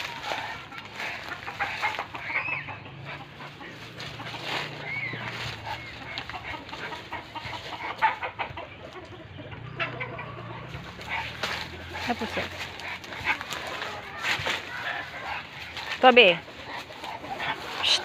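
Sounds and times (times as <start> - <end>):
footsteps in dry leaves: 0.0 - 9.1, 10.3 - 18.0
chickens clucking: 0.0 - 18.0.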